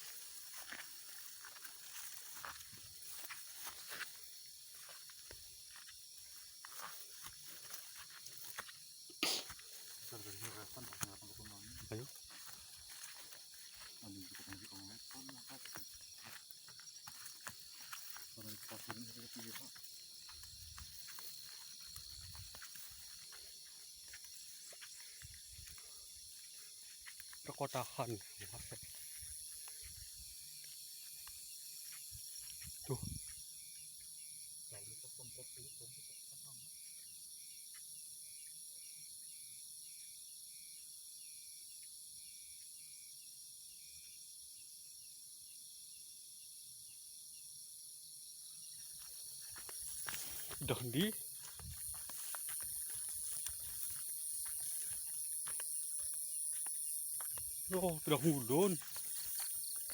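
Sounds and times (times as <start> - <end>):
high-pitched insect drone: 0.0 - 45.7, 47.8 - 59.9.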